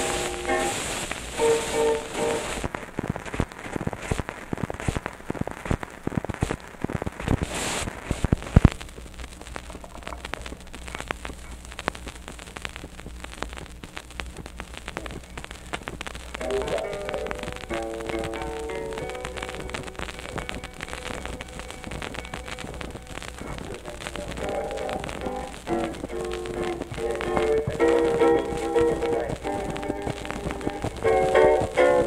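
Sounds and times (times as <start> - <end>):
record surface crackle and pops: 0.0 - 32.0
sharp loud record click: 0.0 - 32.0.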